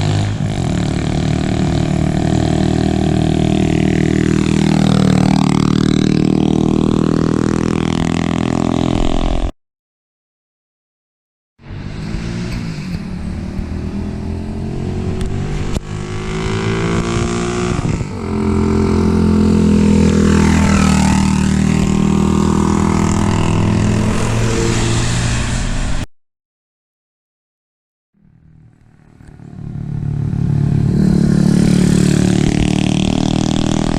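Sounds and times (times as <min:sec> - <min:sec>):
motorbike accelerating past: 0:00.0 - 0:09.5, 0:11.6 - 0:26.0, 0:28.2 - 0:33.9.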